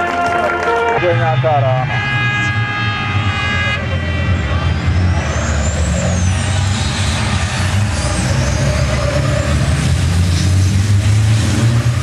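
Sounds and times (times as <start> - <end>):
truck diesel engines droning: 0.0 - 12.0.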